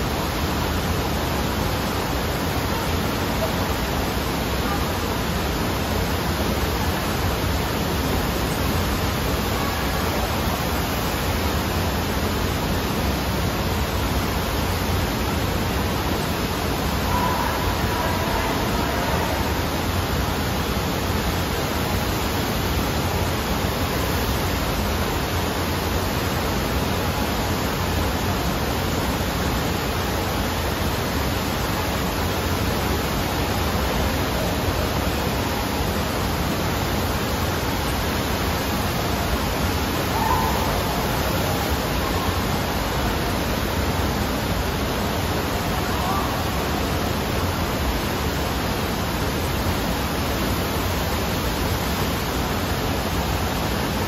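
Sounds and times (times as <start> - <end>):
water rushing steadily: 0.0 - 54.0.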